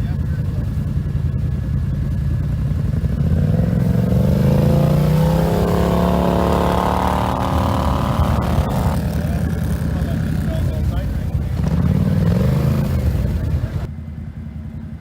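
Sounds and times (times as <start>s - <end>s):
atv engine accelerating: 0.0s - 15.0s.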